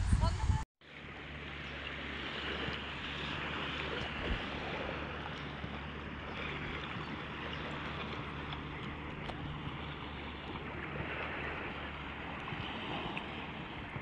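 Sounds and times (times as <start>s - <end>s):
boat engine drone: 0.2s - 14.0s
small waves washing on sand: 0.8s - 14.0s.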